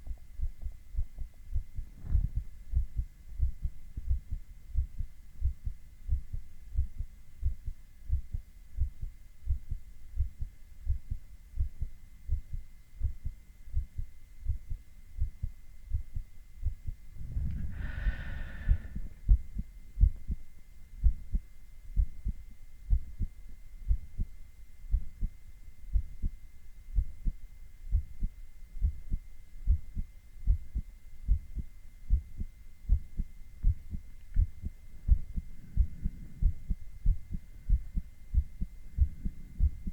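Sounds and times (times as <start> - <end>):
faint high-pitched whine: 0.0 - 39.9
heartbeat through a stethoscope: 0.0 - 39.9.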